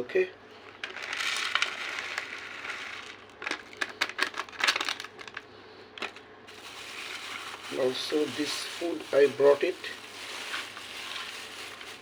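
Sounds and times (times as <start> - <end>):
packet crinkling and rustling: 0.7 - 12.0.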